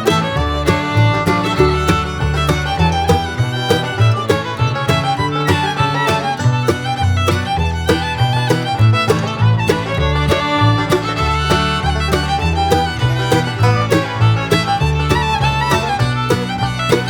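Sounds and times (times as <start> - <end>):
upbeat bluegrass music: 0.0 - 17.0.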